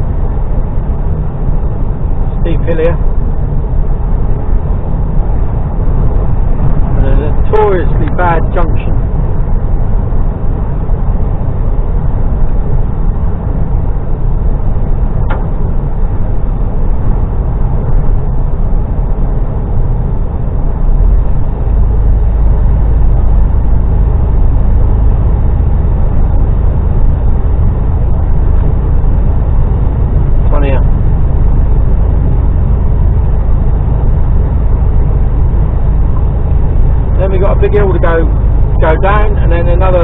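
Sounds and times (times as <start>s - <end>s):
lorry diesel engine rumbling: 0.0s - 40.0s.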